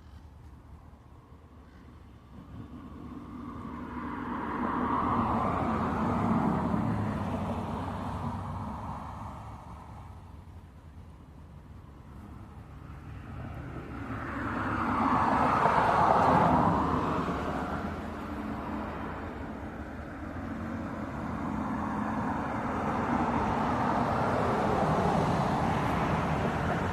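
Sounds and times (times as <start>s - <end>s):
road traffic noise: 0.0s - 26.9s
vehicle passing: 2.2s - 10.3s, 12.1s - 26.9s.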